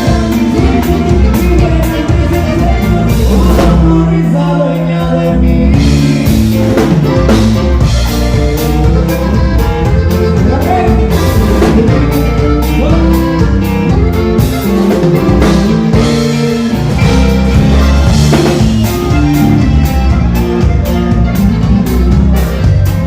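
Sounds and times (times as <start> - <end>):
band playing with guitar and drums: 0.0 - 23.0.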